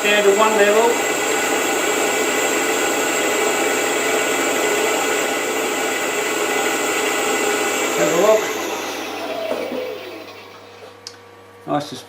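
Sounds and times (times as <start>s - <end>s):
wood lathe whirring: 0.0s - 11.1s
chisel cutting on lathe: 1.0s - 10.9s.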